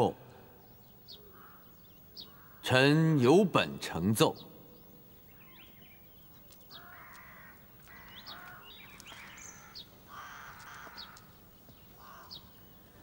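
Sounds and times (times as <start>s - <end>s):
faint bird chirps: 0.0s - 2.8s, 4.2s - 13.0s
harsh bird calls: 0.0s - 13.0s.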